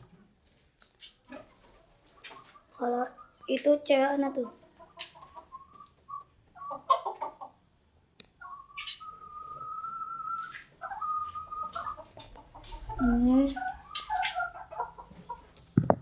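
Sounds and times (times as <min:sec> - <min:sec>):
birds clucking: 0:00.8 - 0:15.8.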